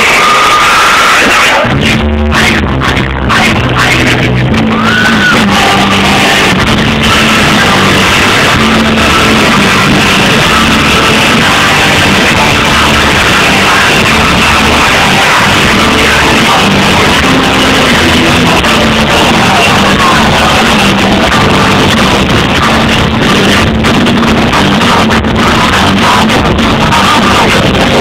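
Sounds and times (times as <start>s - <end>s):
metal band playing live: 0.0s - 28.0s.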